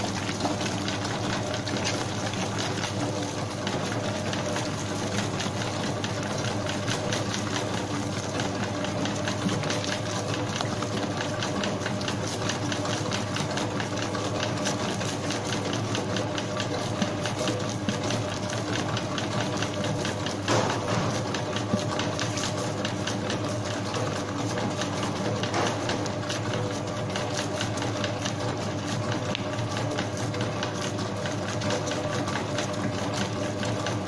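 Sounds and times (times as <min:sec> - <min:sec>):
dough mixer motor humming: 0:00.0 - 0:34.0.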